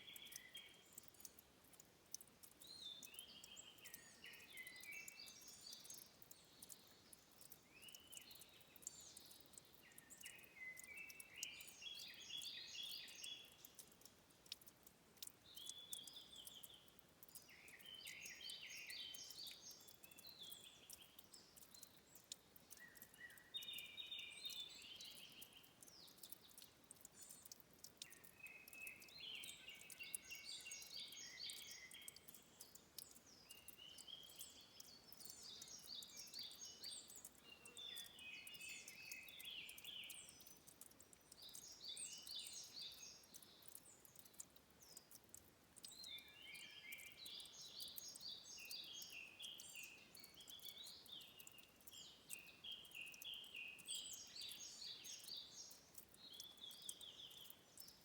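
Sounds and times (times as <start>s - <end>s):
water dripping clicks: 0.0s - 58.0s.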